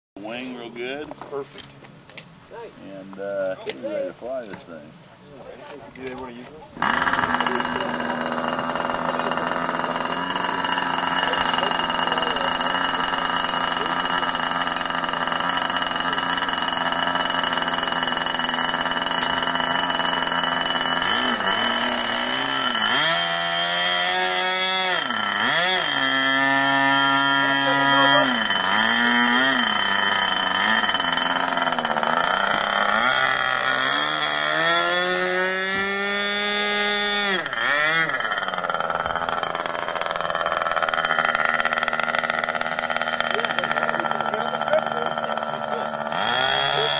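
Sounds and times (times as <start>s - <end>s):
model airplane engine revving: 6.1s - 46.9s.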